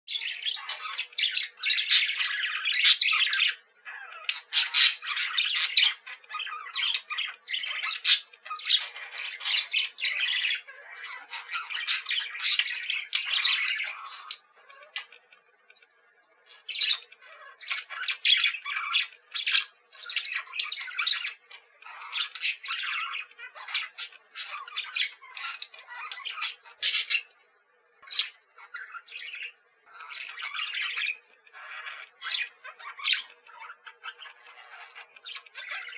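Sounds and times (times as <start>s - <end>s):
budgerigars chattering: 0.1s - 15.4s, 16.4s - 27.4s, 28.0s - 35.9s.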